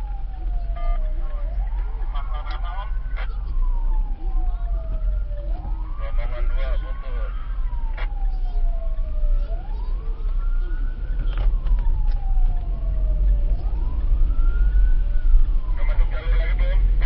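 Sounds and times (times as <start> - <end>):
siren wailing: 0.0 - 17.0
vehicle and road noise: 0.0 - 17.0.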